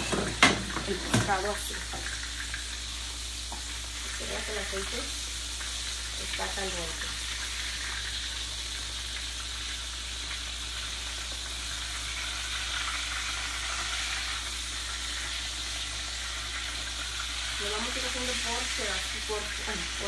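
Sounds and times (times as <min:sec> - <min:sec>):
fish frying in hot oil: 0:00.0 - 0:20.0.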